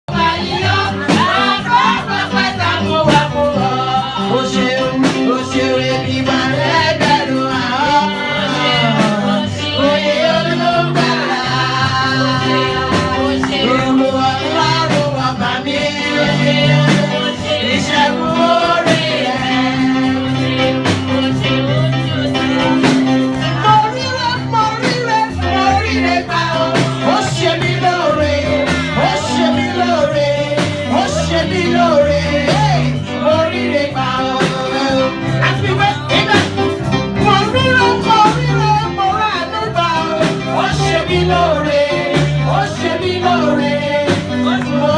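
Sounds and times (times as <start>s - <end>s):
guitar: 0.0s - 44.9s
person singing: 0.0s - 44.9s
steady bass line: 0.1s - 44.9s.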